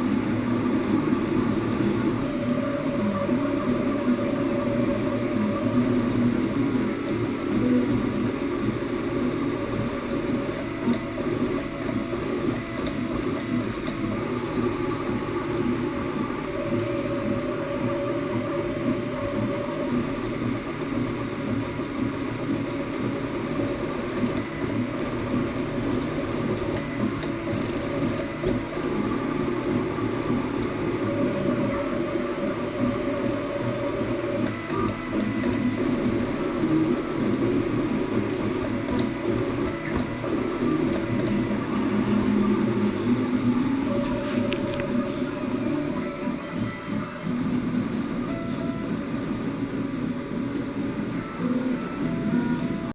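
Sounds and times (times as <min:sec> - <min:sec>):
printer stepper motors whirring: 0:00.0 - 0:52.9.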